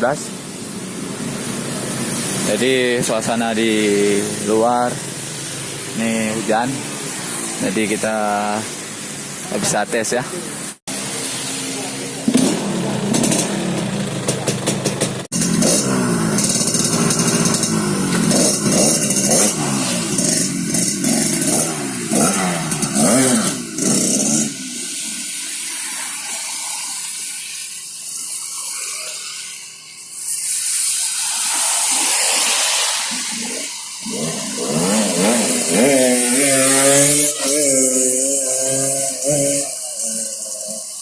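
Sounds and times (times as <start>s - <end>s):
rain hiss: 0.0s - 13.3s, 15.3s - 41.0s
motorcycle engine revving: 0.0s - 41.0s.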